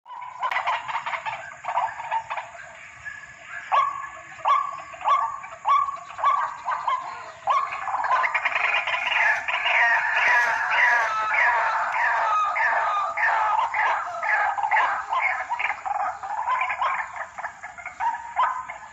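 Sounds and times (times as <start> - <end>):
waterhen harsh croaking calls: 0.1 - 18.9.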